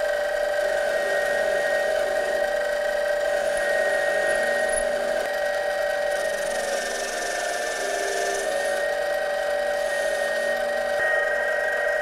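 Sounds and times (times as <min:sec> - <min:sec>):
lathe motor and gears whining: 0:00.0 - 0:12.0.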